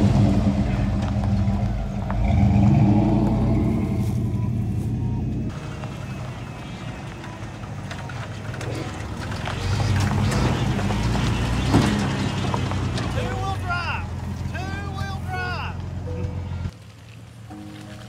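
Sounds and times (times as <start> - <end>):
pickup truck engine running: 0.0 - 17.9
truck driving on dirt trail: 0.0 - 18.0.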